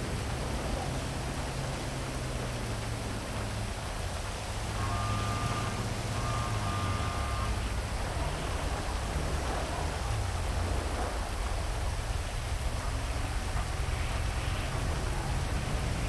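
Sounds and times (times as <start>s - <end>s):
faint steady tone: 0.0s - 16.0s
heavy rain hiss: 0.0s - 16.0s
low traffic rumble: 0.0s - 16.0s.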